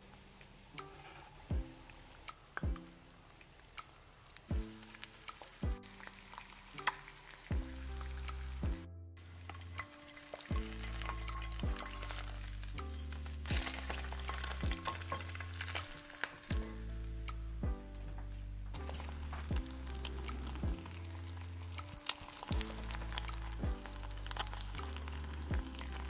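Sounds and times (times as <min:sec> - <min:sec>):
eggs sizzling in a pan: 0:00.0 - 0:17.7, 0:18.7 - 0:26.0
background music with plucked notes: 0:00.1 - 0:26.0.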